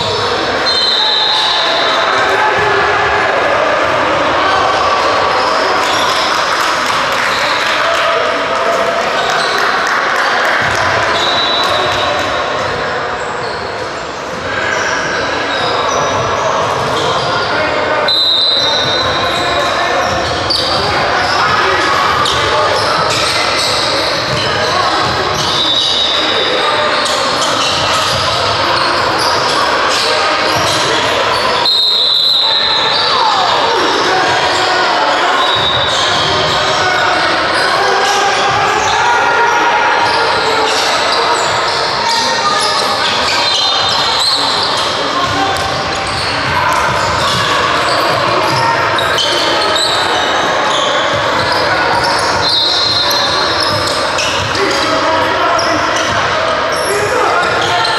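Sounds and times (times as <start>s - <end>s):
sneaker squeaks: 0.0s - 2.7s, 10.6s - 57.9s
haze of voices: 0.0s - 57.9s.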